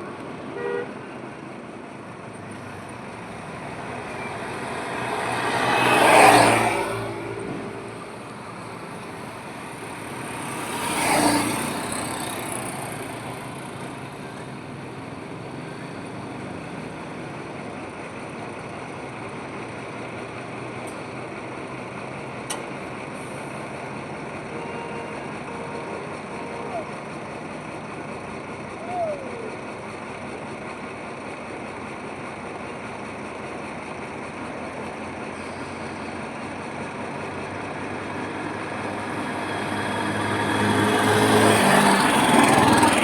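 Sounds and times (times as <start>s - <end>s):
road noise: 0.0s - 43.0s
vehicles passing close: 0.0s - 43.0s.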